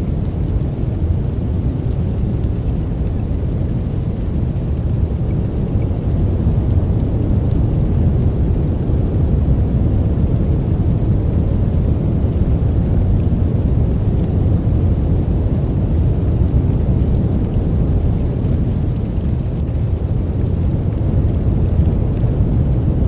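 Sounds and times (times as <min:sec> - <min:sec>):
deep steady noise hiss: 0:00.0 - 0:23.0.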